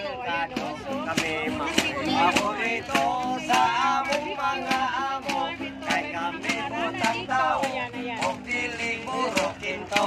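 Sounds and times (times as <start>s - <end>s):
people singing together: 0.0s - 10.0s
strummed guitar: 0.0s - 10.0s.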